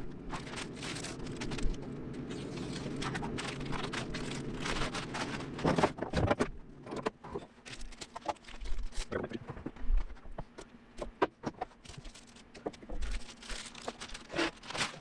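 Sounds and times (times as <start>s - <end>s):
steady low hum: 0.0s - 15.0s
paper rustling and crinkling: 0.2s - 15.0s.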